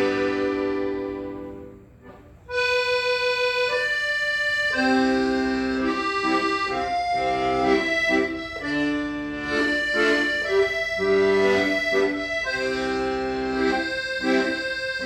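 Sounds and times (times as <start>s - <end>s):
accordion playing slow melody: 0.0s - 15.0s.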